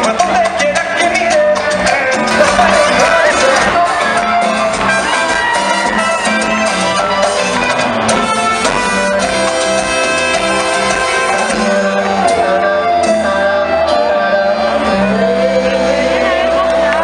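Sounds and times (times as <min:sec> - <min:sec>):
live band music through loudspeakers: 0:00.0 - 0:17.0.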